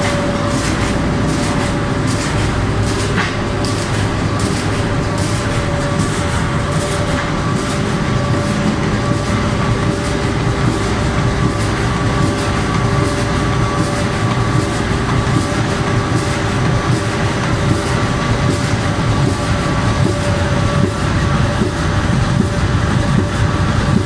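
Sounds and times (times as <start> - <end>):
machine clattering: 0.0 - 24.0
steady machine whine: 0.0 - 24.0.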